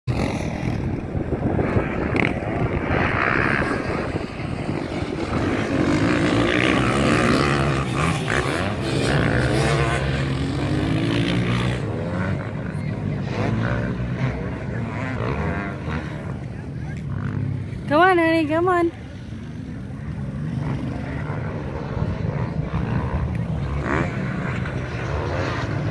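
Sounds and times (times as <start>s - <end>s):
dirt bike engines revving: 0.1s - 25.9s.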